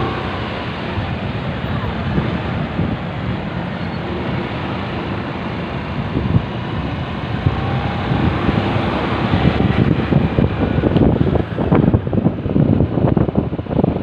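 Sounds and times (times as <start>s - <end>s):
motorcycle engine: 0.0s - 12.5s
road noise: 0.0s - 14.0s
wind buffeting microphone: 0.0s - 14.0s.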